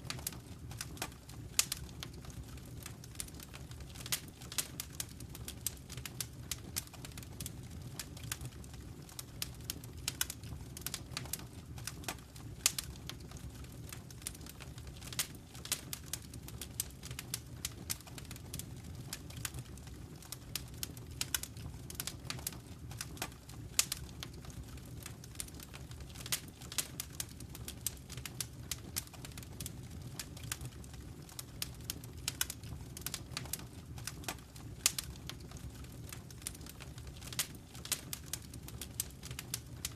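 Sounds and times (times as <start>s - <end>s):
flames rumbling: 0.0s - 39.9s
wood fire popping and snapping: 0.0s - 39.9s.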